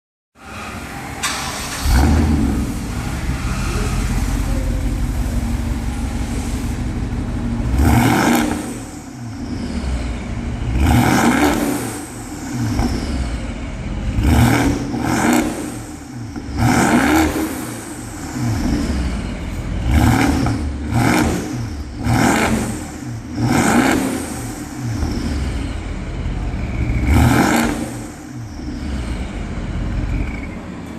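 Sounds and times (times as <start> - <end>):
car engine revving: 0.4 - 30.6.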